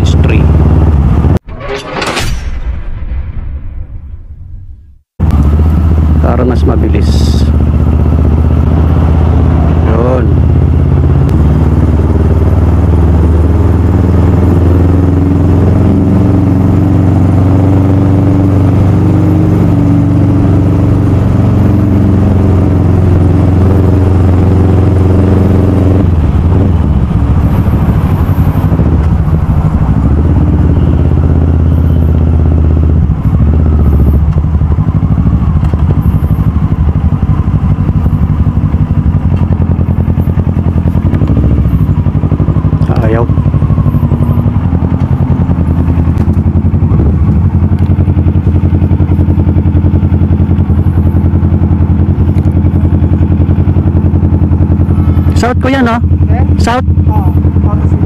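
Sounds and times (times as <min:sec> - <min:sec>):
motorcycle engine running: 0:00.0 - 0:01.4, 0:05.2 - 0:58.0.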